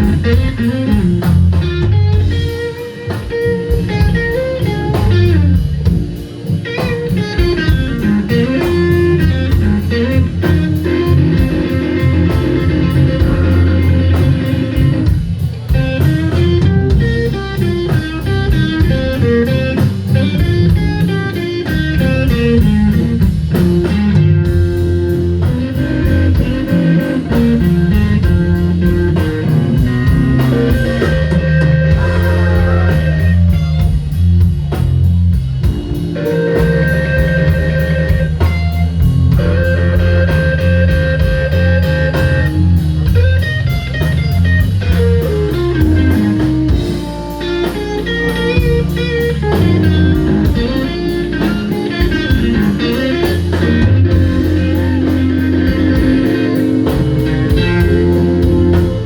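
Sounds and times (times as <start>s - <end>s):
electric blues band playing: 0.0s - 59.0s
electric guitar lead lines: 0.0s - 59.0s.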